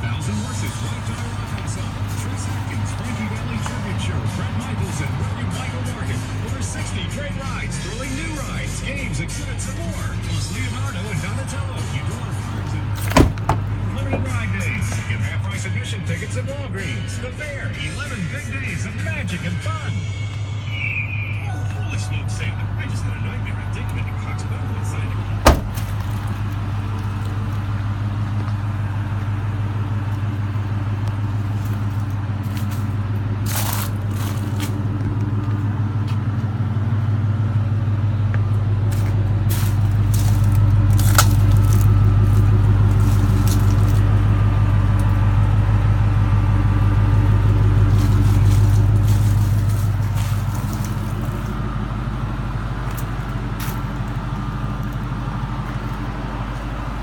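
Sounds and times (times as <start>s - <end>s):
pickup truck engine running: 0.0s - 57.0s.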